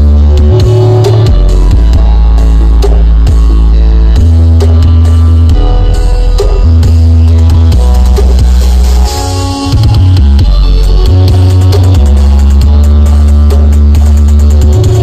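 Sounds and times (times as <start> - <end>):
loud music with deep bass: 0.0 - 15.0.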